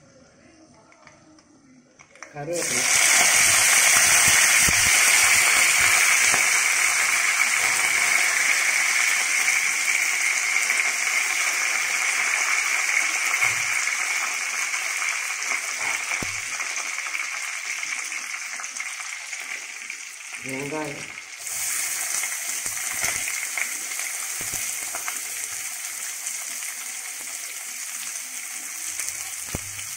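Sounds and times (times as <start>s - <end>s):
leaves sizzling in hot oil: 2.4s - 29.9s.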